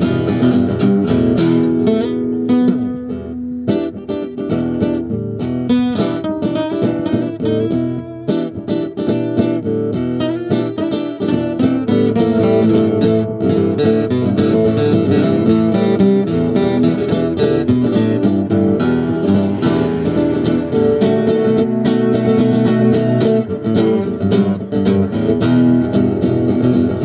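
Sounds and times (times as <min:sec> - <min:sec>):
acoustic guitar music: 0:00.0 - 0:27.0.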